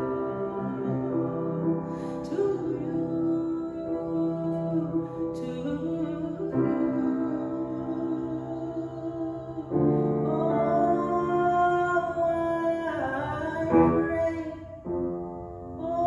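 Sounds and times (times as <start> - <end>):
woman singing long notes: 0.0 - 14.9
grand piano accompaniment: 0.0 - 16.0.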